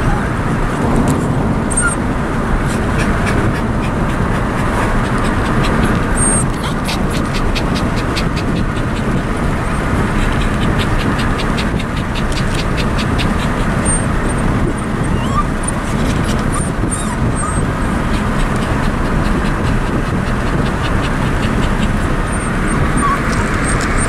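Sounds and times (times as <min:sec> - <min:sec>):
car road noise: 0:00.0 - 0:24.0
wind rushing through car window: 0:00.0 - 0:24.0.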